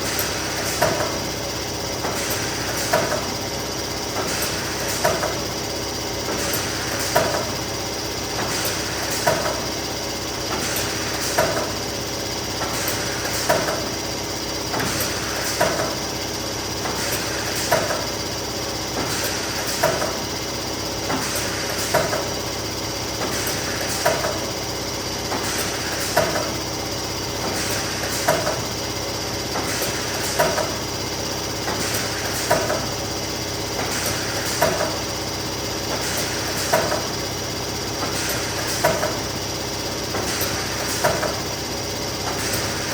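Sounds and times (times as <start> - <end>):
laminating machine running: 0.0 - 42.9.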